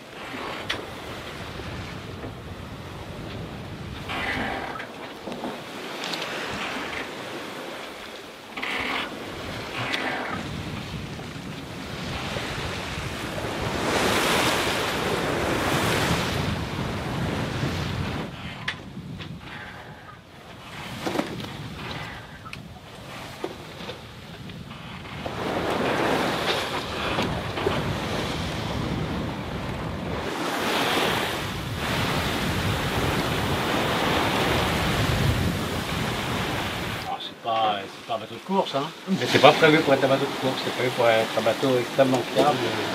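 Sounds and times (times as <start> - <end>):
water rushing past hull: 0.0 - 18.4, 20.6 - 42.9
wind buffeting microphone: 0.5 - 7.8, 9.1 - 37.1.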